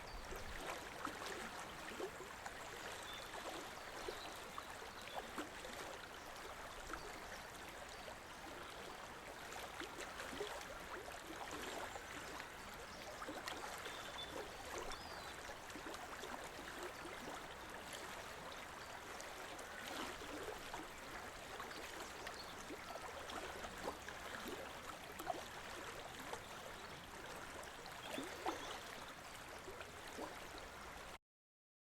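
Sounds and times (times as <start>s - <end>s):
water splashing and gurgling: 0.0s - 7.1s, 8.7s - 30.8s.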